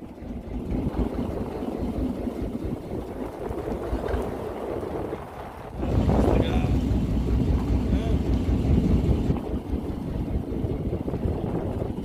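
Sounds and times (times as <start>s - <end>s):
boat motor churning: 0.0s - 12.0s.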